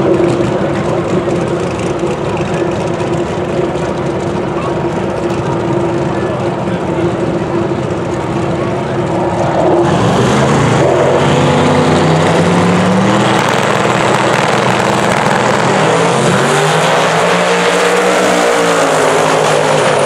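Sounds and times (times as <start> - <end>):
drag race cars accelerating: 0.0 - 20.0.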